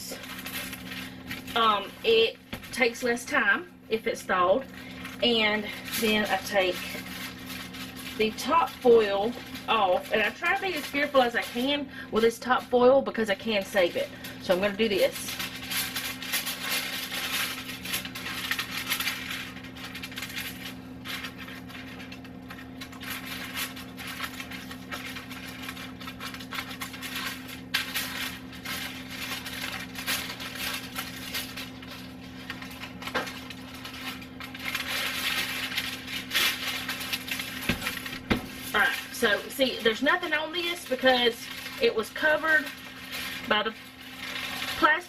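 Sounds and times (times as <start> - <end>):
aluminium foil crinkling: 0.0 - 45.0
steady low hum: 0.0 - 45.0.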